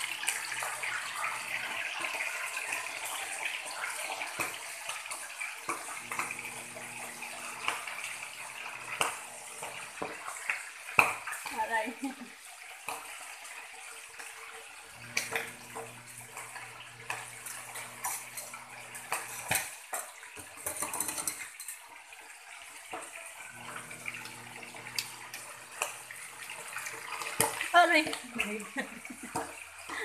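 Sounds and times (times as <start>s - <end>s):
fish frying in hot oil: 0.0s - 30.0s.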